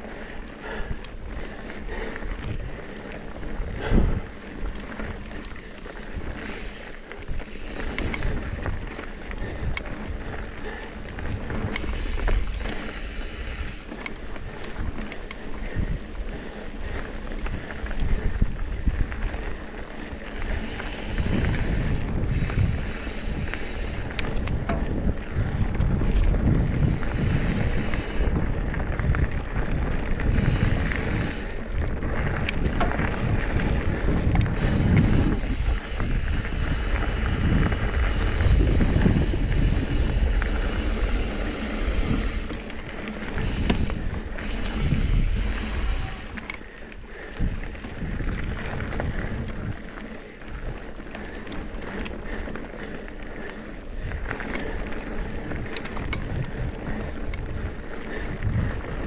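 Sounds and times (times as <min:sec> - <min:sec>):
bike clicks and rattles: 0:00.0 - 0:59.0
bike tyre rumble on dirt: 0:00.0 - 0:59.0
wind buffeting microphone: 0:00.0 - 0:59.0.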